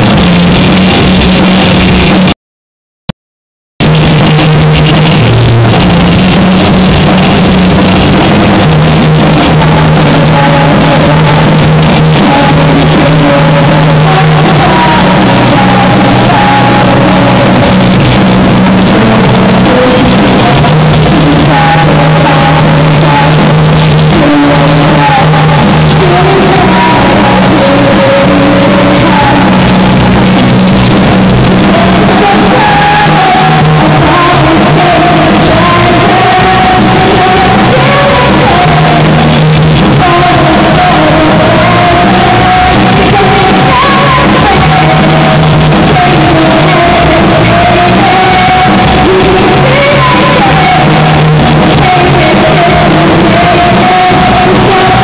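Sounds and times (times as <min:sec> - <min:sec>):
woman singing: 0:08.1 - 0:30.2, 0:31.5 - 0:55.0.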